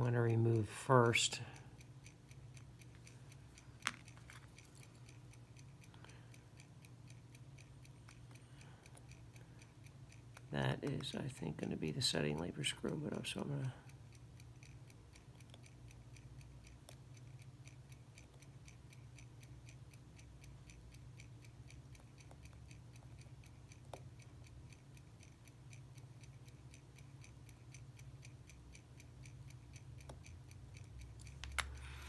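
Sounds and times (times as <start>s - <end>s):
clock ticking rapidly: 0.0s - 32.0s
low steady hum: 0.0s - 32.0s.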